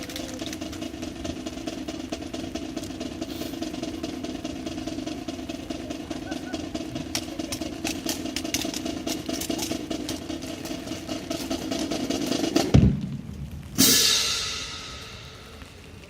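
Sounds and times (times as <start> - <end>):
snare drum roll: 0.0 - 15.8.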